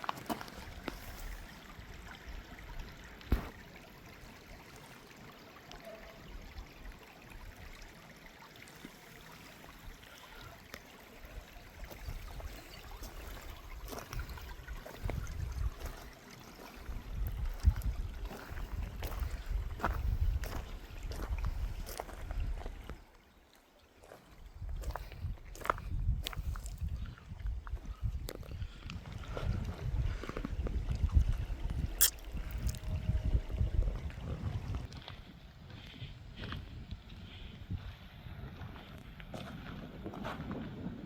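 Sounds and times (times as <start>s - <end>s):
trickling running water: 0.0s - 25.3s, 26.2s - 34.9s.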